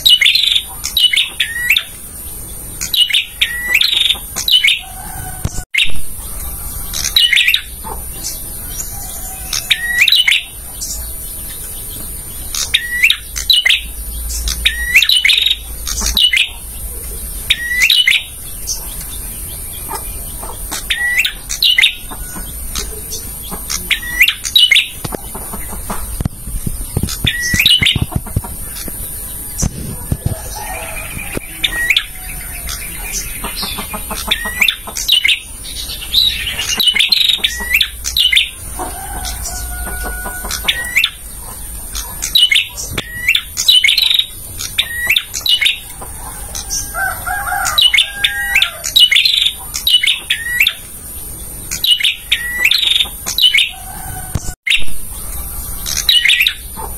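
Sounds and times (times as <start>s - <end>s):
bird chirping: 0.0s - 56.9s.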